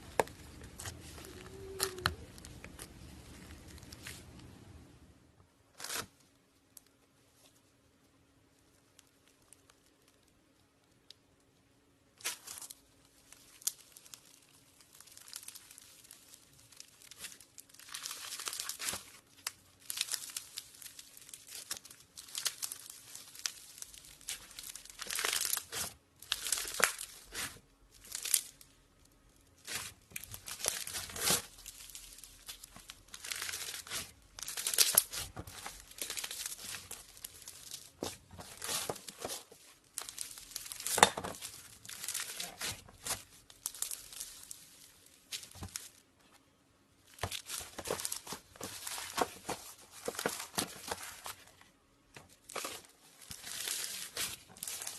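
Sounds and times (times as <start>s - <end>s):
slime crackling and popping: 0.0s - 4.5s, 12.1s - 46.1s, 47.0s - 51.5s, 52.2s - 54.9s.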